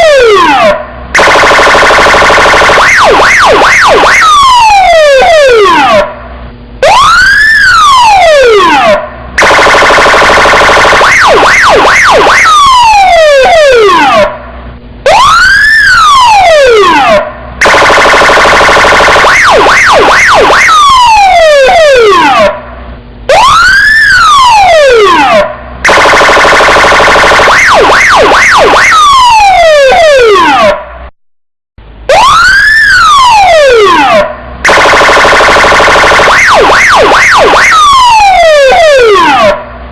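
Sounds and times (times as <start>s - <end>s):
police siren wailing and warbling: 0.0s - 31.0s, 31.9s - 39.9s.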